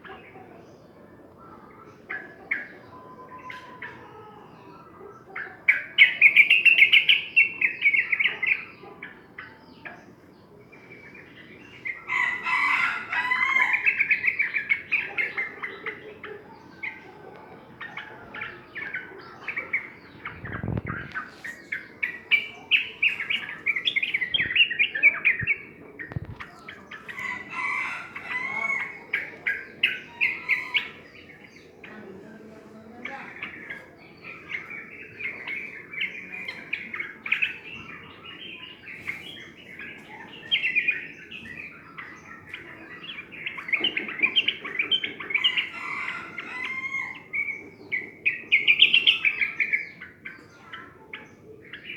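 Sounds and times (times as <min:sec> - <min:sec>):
bird chattering song: 0:00.0 - 0:51.9.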